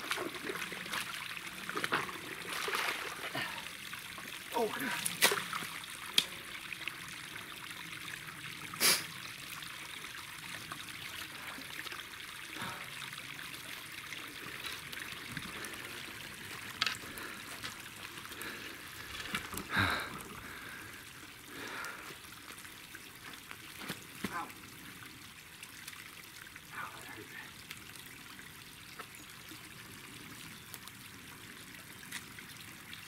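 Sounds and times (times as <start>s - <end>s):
water trickling: 0.0s - 33.0s.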